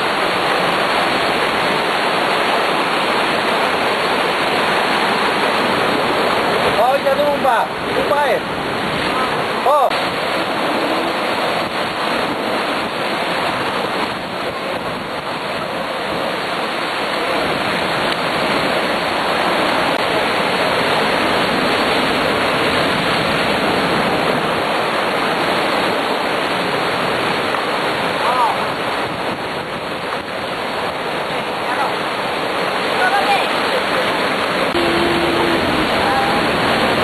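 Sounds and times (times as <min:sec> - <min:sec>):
water rushing: 0:00.0 - 0:37.0.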